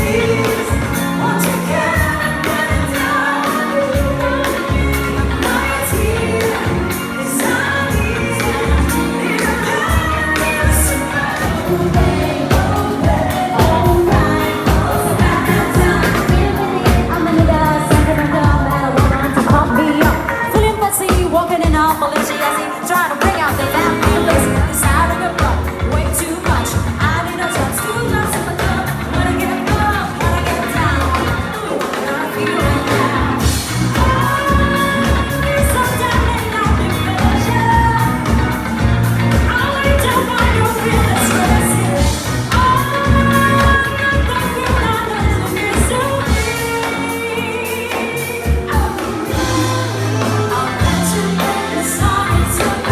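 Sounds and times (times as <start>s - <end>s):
drum kit beat: 0.0s - 52.9s
lead singer singing: 0.0s - 52.9s
live band playing pop song: 0.0s - 52.9s.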